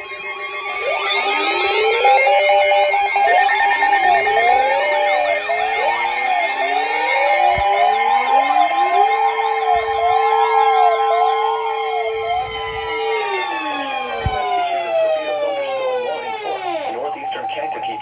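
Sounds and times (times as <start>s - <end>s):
choppy alarm tones: 0.0s - 18.0s
rising and falling siren tone: 0.0s - 18.0s
weather alert radio alarm tones: 0.0s - 18.0s.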